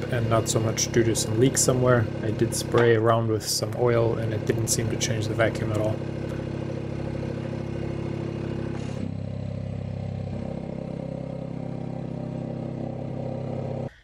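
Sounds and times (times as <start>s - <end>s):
vacuum pump running: 0.0s - 14.0s.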